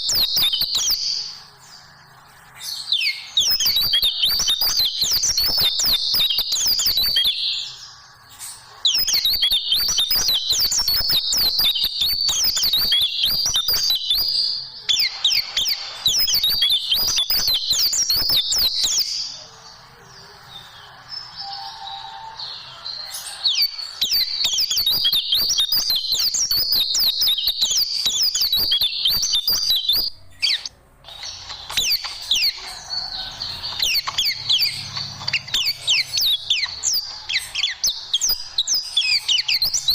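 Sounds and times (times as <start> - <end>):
white-eye bird twittering: 2.6 - 19.4, 20.8 - 39.9.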